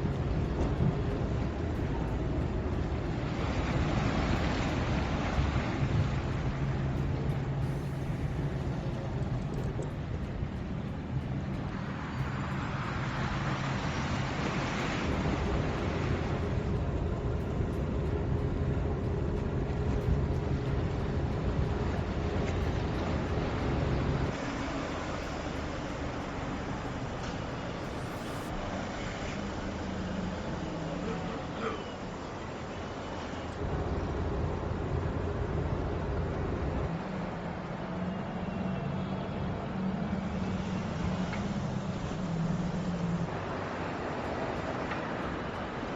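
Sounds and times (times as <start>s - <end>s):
low hum: 0.0s - 45.9s
road and tyre noise: 0.0s - 45.9s.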